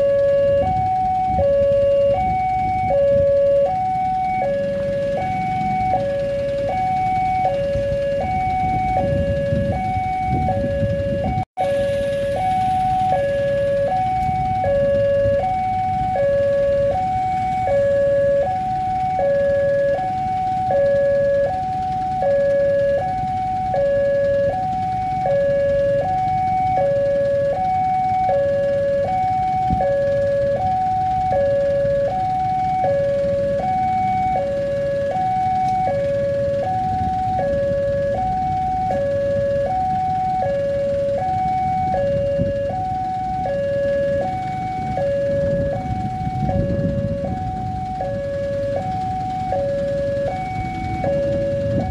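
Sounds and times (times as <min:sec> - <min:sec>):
motorcycles rumbling: 0:00.0 - 0:51.9
two-tone crossing alarm: 0:00.0 - 0:51.9
van idling: 0:00.0 - 0:51.9.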